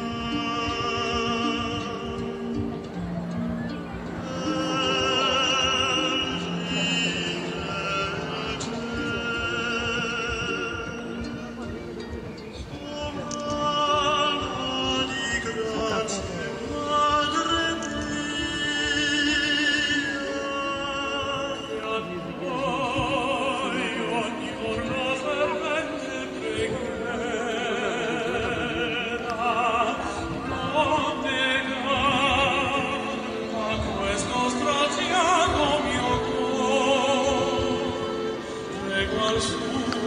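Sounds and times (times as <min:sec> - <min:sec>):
operatic singing: 0:00.0 - 0:40.0
orchestral accompaniment: 0:00.0 - 0:40.0.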